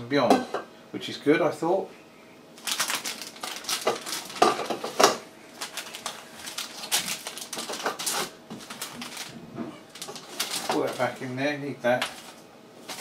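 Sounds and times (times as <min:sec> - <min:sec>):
foil sachets crinkling: 0:02.6 - 0:13.0.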